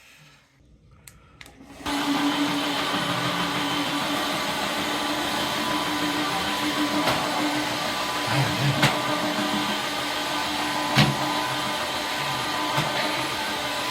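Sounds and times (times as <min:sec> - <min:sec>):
floor washer suction and motor: 0:01.5 - 0:13.9.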